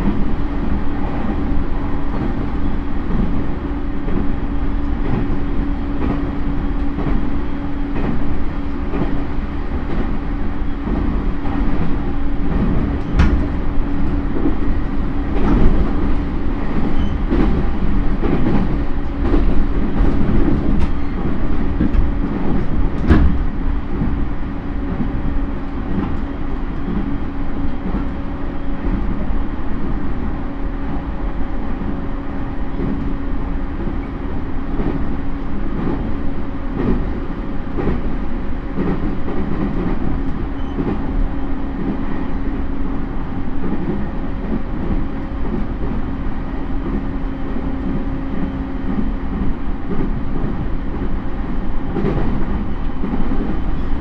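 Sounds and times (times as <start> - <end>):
train rail noise: 0.0 - 54.0.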